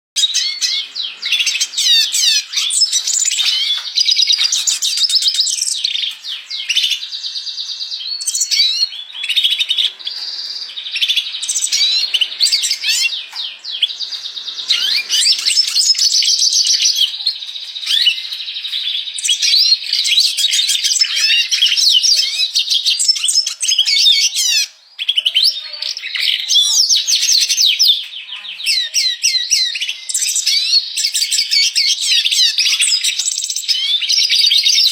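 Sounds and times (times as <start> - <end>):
bird twittering song: 0.2 - 34.9.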